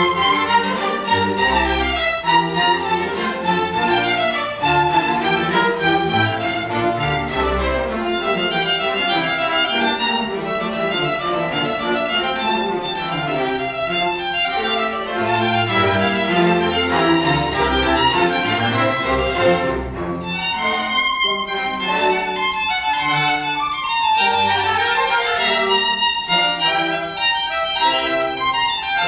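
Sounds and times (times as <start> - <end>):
string orchestra playing: 0.0 - 29.0.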